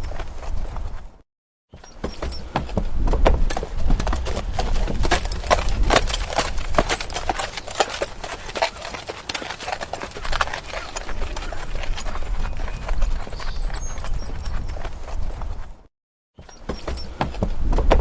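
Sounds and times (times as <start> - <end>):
horse hooves clip-clopping: 0.0 - 1.2, 1.8 - 18.0.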